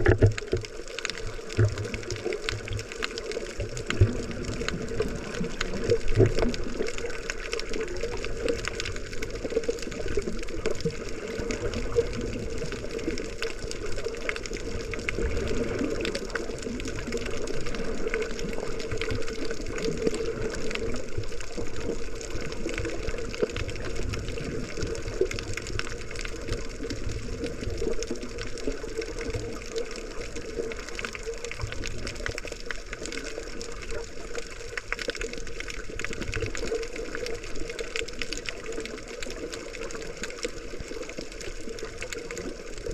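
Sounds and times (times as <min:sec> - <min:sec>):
crackle of small clicks: 0:00.0 - 0:42.9
muffled underwater wash: 0:00.0 - 0:42.9.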